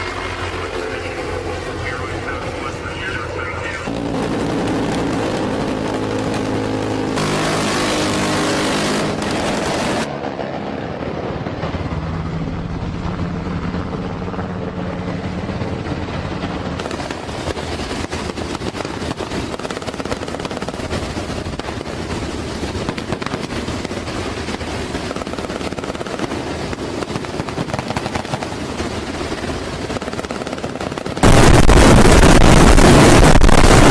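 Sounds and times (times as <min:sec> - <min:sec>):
engine hum: 0:00.0 - 0:33.9
helicopter rotor chop: 0:00.0 - 0:33.9.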